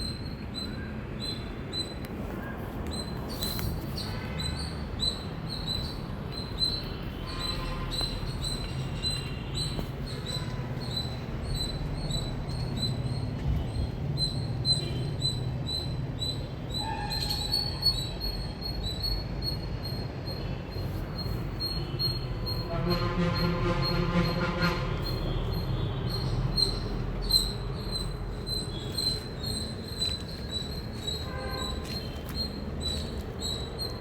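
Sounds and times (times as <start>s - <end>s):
squirrel chirping: 2.9s - 22.7s, 25.0s - 34.0s.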